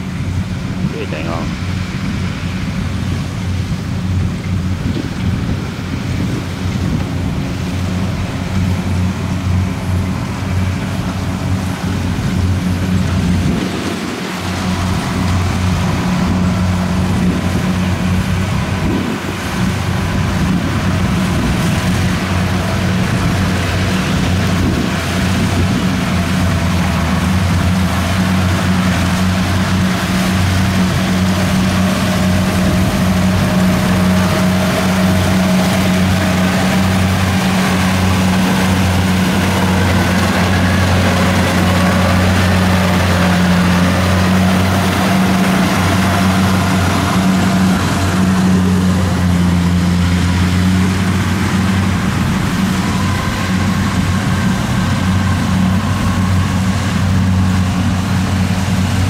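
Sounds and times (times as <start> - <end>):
combine harvester diesel engine: 0.0 - 59.0.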